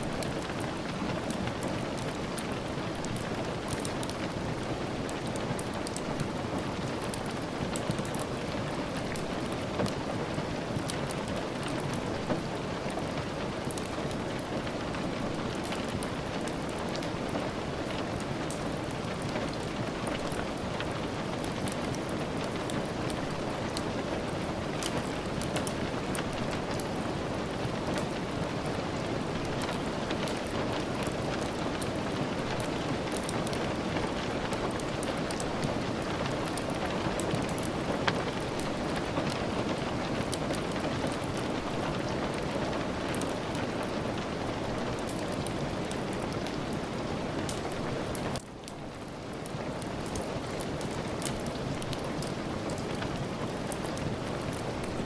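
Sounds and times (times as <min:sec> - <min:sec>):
steady rain: 0:00.0 - 0:55.0
sharp raindrop ticks: 0:00.2 - 0:28.7, 0:29.3 - 0:55.0.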